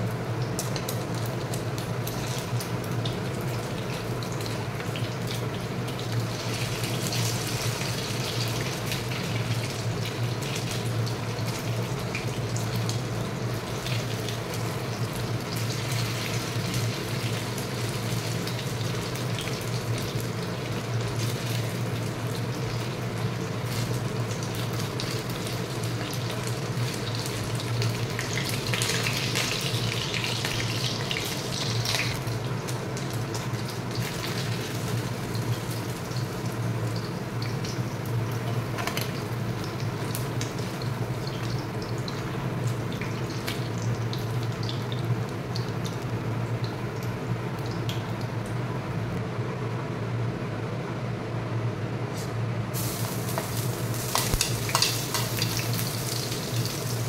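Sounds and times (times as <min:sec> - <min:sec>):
food sizzling in oil: 0:00.0 - 0:47.8, 0:52.7 - 0:57.0.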